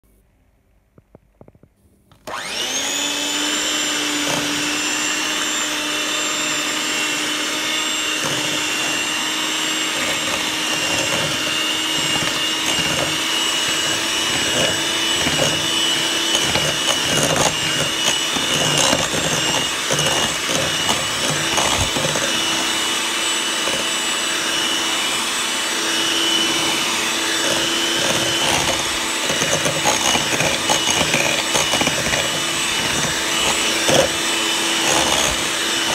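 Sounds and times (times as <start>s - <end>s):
electric hand mixer whine: 2.2s - 35.9s.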